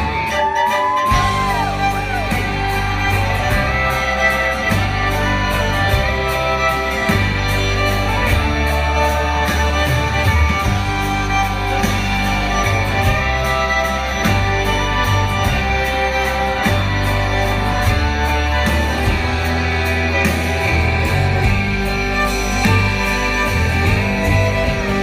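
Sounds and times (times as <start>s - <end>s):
fiddle: 0.0s - 25.0s
live country band playing: 0.0s - 25.0s.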